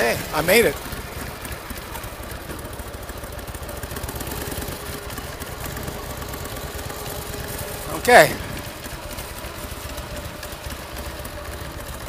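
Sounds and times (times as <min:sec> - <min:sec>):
motorcycle engine rumbling at low revs: 0:00.0 - 0:12.0.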